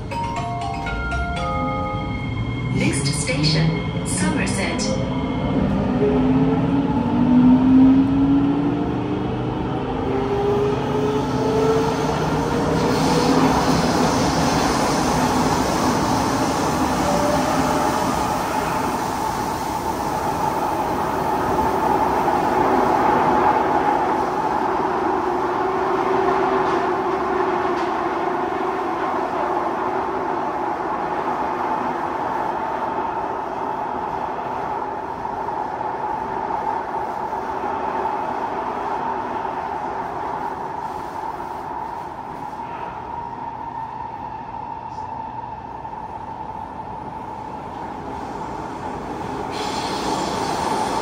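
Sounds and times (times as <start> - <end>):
metro train rushing rumble: 0.0 - 51.0
train whine: 0.0 - 51.0.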